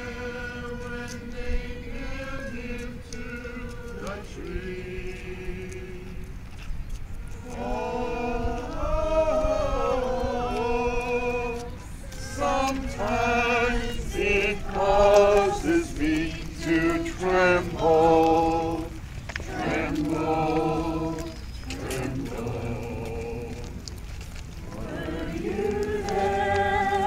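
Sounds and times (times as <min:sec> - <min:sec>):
group singing a hymn: 0:00.0 - 0:06.4, 0:07.3 - 0:24.0, 0:24.6 - 0:27.0.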